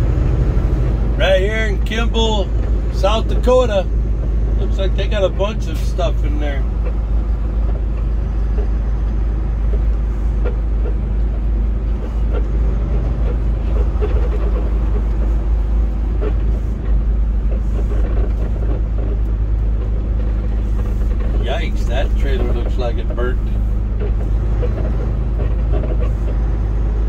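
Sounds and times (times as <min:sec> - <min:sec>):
diesel truck engine droning: 0:00.0 - 0:27.0
road noise while driving: 0:00.0 - 0:27.0.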